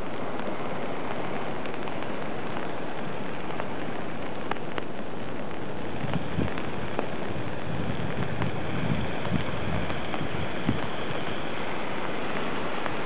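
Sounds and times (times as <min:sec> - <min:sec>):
rain falling: 0:00.0 - 0:13.0
single raindrop ticks: 0:00.0 - 0:13.0.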